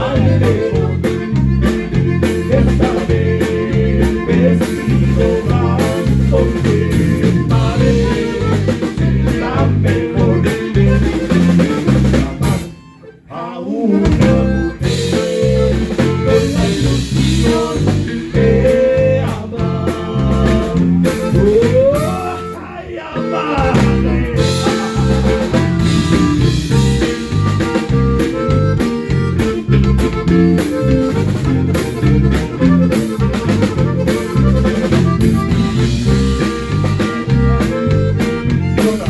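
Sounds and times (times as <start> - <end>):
live band playing instrumental: 0.0 - 13.3, 14.0 - 39.0.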